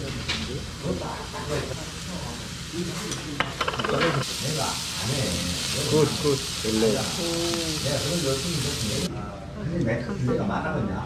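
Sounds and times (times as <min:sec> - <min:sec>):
meat sizzling on a grill: 0:00.0 - 0:09.1.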